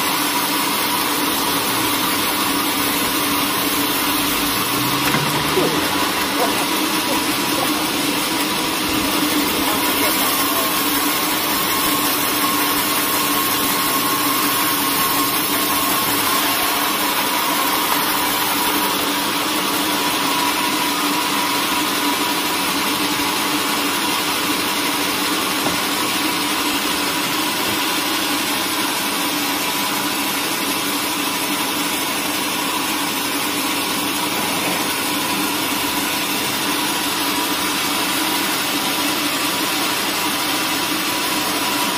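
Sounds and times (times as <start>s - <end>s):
band sawmill cutting log: 0.0s - 41.9s.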